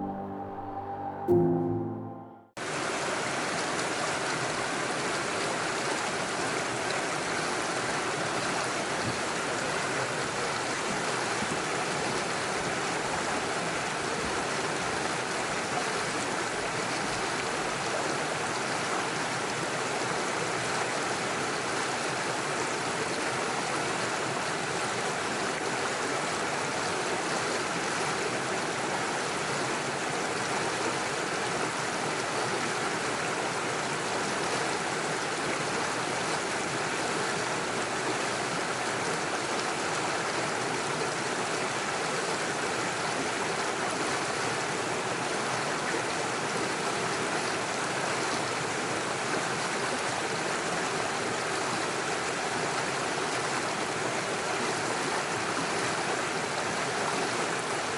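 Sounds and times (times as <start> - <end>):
stream running over stones: 2.7 - 57.9.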